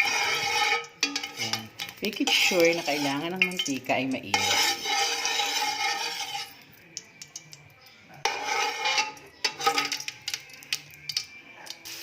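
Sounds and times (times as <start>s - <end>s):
metal utensils clinking on dishes: 0.0s - 11.9s.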